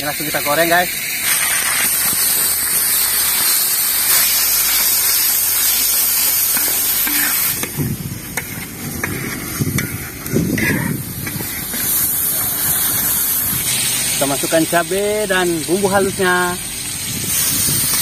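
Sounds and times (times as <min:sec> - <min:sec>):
hot oil sizzling in a wok: 0:00.0 - 0:18.0.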